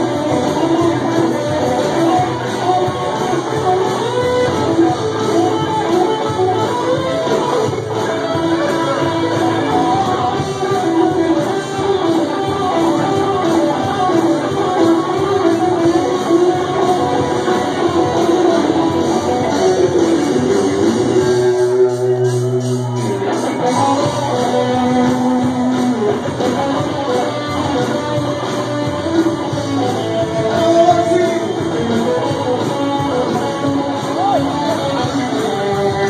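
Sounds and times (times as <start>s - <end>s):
guitar music: 0.0s - 36.0s
person singing: 0.0s - 36.0s.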